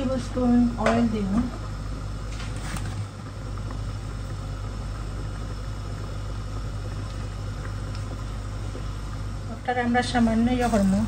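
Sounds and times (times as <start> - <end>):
appliance humming with hiss: 0.0 - 11.0.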